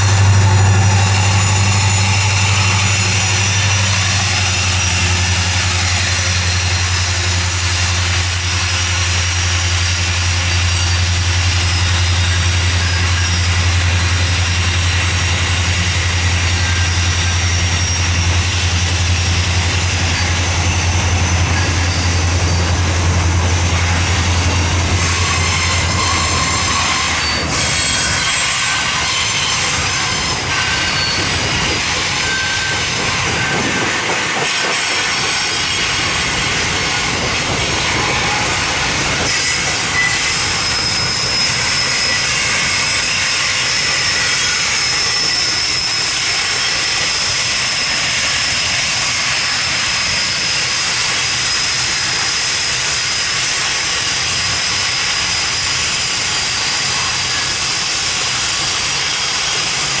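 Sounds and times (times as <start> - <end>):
high-pitched wheel squeal: 0.0 - 60.0.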